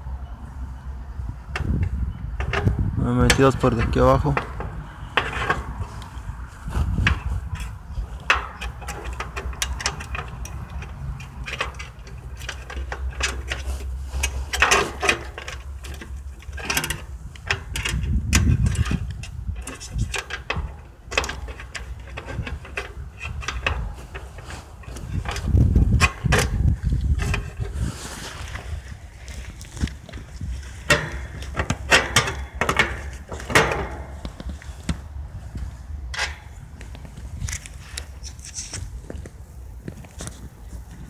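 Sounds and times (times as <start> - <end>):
steady low rumble: 0.0 - 41.0
metal conduit clicking and scraping: 1.5 - 39.0.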